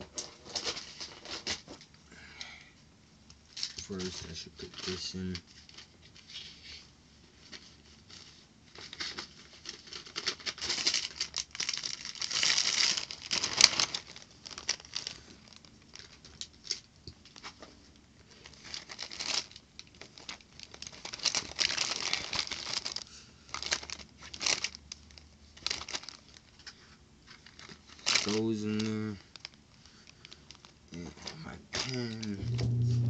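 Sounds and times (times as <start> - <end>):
rustling and crinkling: 0.0 - 2.1, 3.2 - 33.0.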